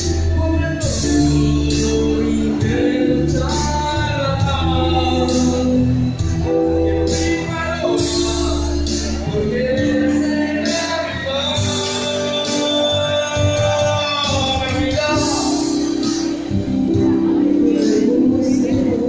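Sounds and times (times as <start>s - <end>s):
electronic keyboard accompaniment: 0.0s - 19.0s
man singing a ballad: 0.0s - 19.0s.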